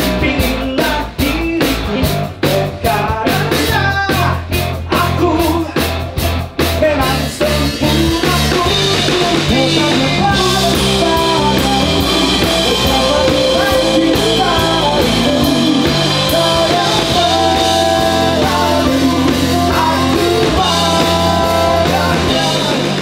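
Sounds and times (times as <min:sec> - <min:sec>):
person singing: 0:00.0 - 0:05.9, 0:06.8 - 0:23.0
pop-rock band music: 0:00.0 - 0:23.0.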